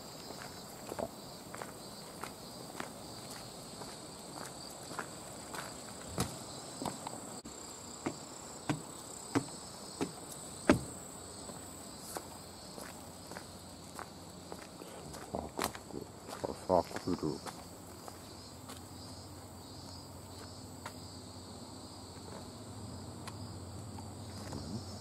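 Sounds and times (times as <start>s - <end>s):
footsteps crunching on gravel: 0.0s - 7.3s, 8.0s - 21.0s, 23.2s - 24.8s
insects chirring: 0.0s - 25.0s.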